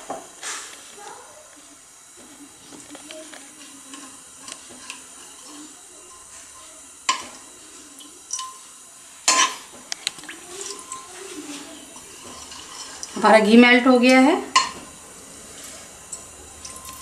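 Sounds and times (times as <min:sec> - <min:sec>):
ghee sizzling in a pan: 0:00.0 - 0:17.0.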